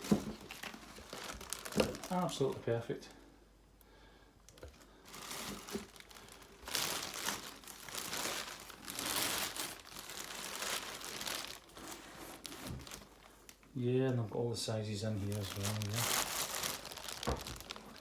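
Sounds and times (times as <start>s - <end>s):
packaging crinkling: 0.0s - 2.8s, 4.5s - 13.7s, 15.0s - 18.0s.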